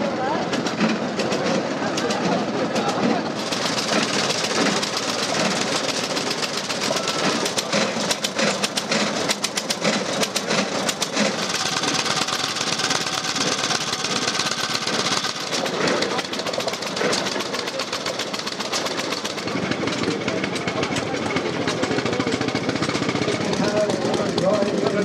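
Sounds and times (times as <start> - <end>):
motorcycle engines running: 0.0 - 25.0.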